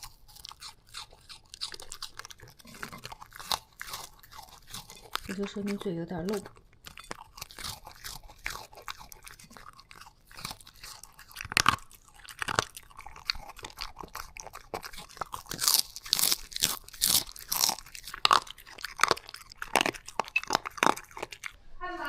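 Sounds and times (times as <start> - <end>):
dog crunching dry food: 0.0 - 21.6.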